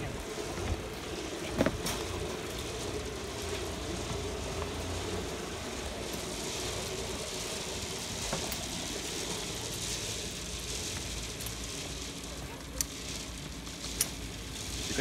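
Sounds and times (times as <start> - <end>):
wind rumble on microphone: 0.0 - 15.0
zipline trolley whirring on cable: 0.0 - 15.0.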